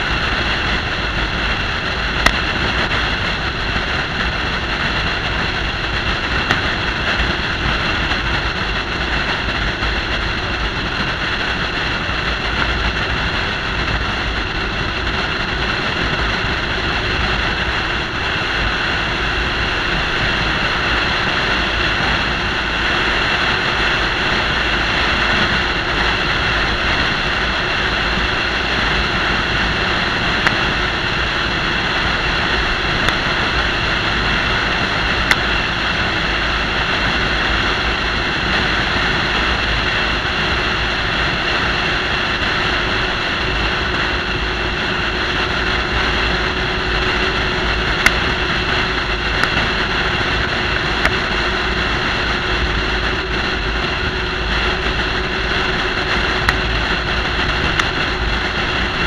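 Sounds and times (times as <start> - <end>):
wind rushing: 0.0 - 59.0.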